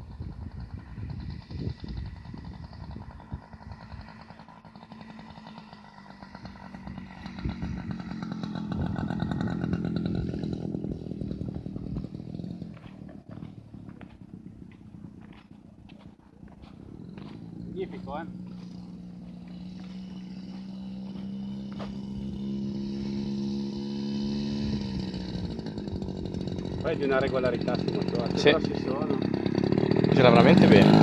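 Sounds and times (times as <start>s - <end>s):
model aeroplane engine running: 0.0s - 31.0s.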